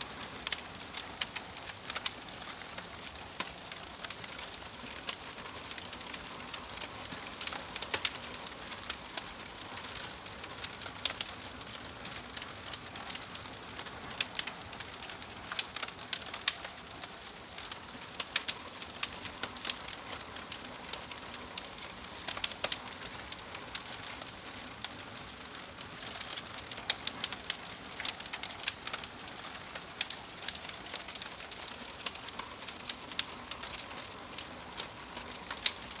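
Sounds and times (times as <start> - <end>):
fire crackling and popping: 0.0 - 36.0.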